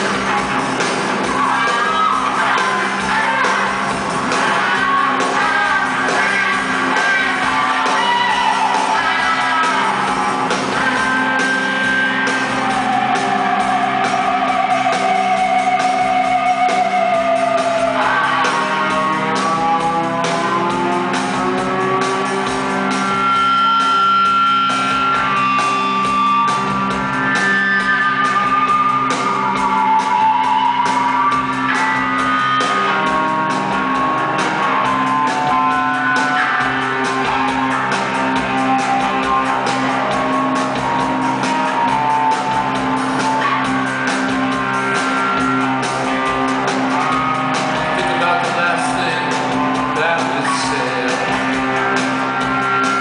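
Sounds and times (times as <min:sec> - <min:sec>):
electric guitars sliding notes: 0:00.0 - 0:53.0
rock band playing live: 0:00.0 - 0:53.0.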